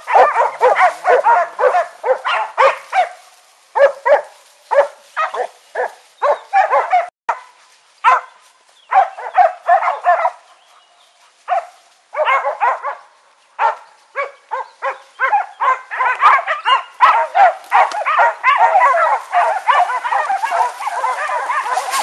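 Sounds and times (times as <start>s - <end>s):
dogs barking: 0.0s - 22.0s.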